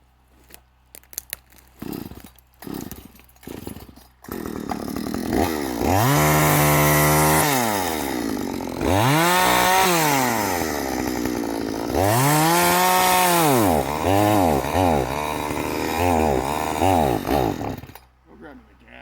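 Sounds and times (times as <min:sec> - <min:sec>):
chainsaw engine revving: 0:01.8 - 0:18.1.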